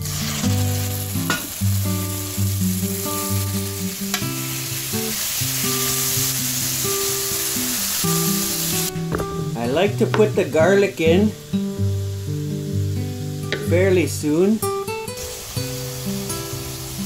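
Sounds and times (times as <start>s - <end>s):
meat sizzling in a skillet: 0.0s - 17.0s.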